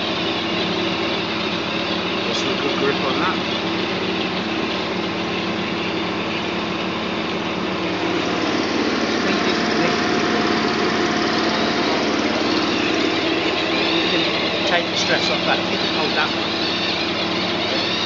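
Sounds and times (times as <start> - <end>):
air compressor engine drone: 0.0 - 18.0
faint steady whine: 0.0 - 18.0.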